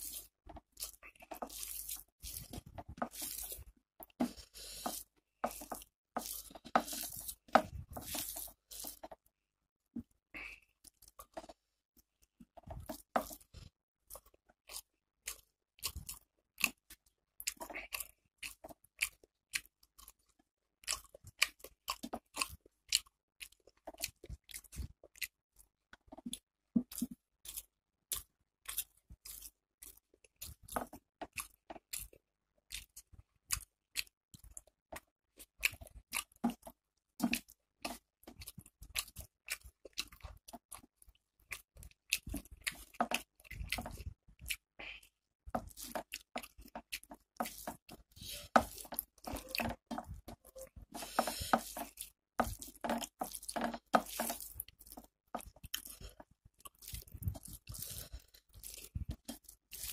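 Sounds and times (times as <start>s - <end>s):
person chewing wetly: 0.0s - 9.3s, 10.0s - 59.9s.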